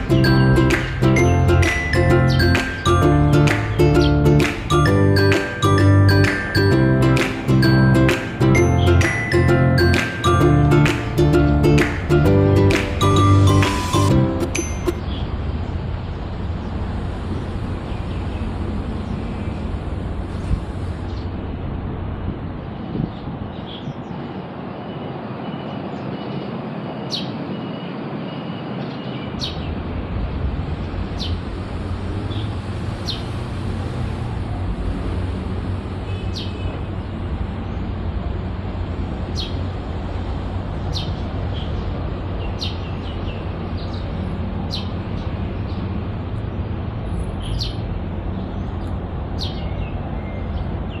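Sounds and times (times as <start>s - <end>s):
traffic rumble: 0.0s - 51.0s.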